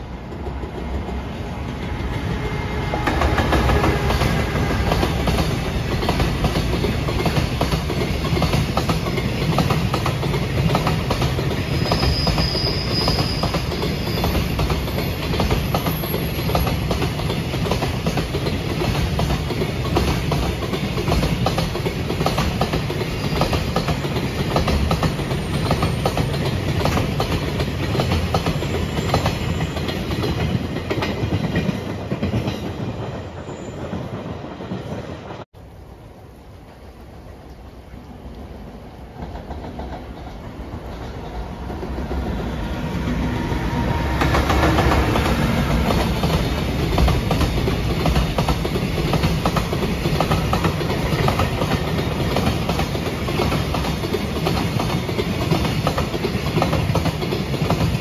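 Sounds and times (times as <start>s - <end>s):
train wheels clickety-clack: 0.0s - 35.5s, 39.1s - 58.0s
low train rumble: 0.0s - 58.0s.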